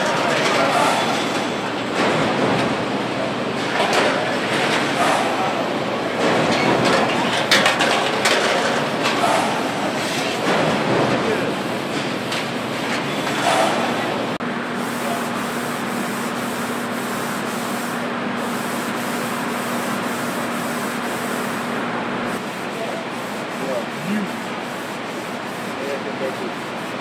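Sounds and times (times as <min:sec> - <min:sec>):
factory floor noise: 0:00.0 - 0:27.0.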